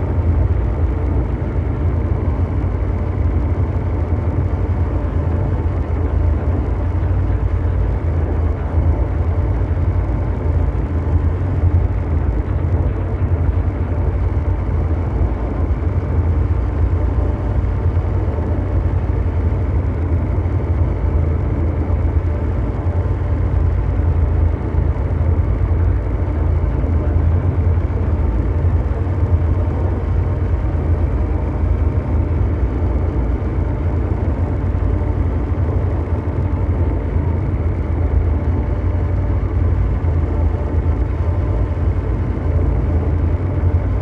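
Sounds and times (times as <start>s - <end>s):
deep mechanical drone: 0.0s - 44.0s
faint steady hum tones: 0.0s - 44.0s.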